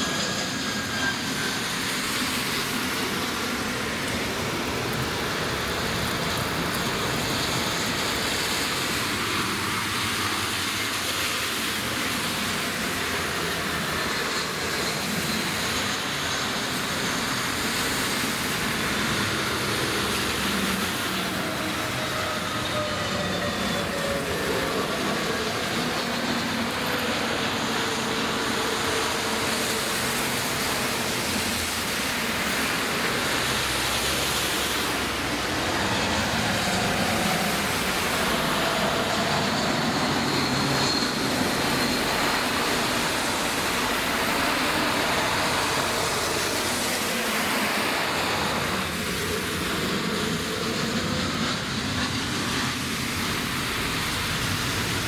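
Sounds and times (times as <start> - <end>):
jet airliner roar: 0.0 - 55.0
heavy rain hiss: 1.6 - 55.0.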